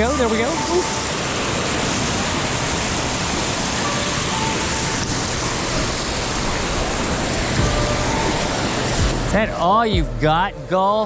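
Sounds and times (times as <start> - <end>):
surf rushing: 0.0 - 11.0.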